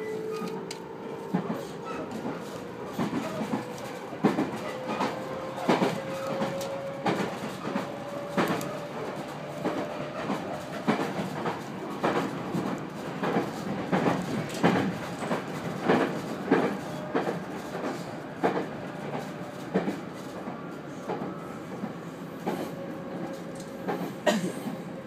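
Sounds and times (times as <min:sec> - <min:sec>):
train wheels clacking on rail joints: 0:00.0 - 0:24.8
train rumble: 0:00.0 - 0:25.0.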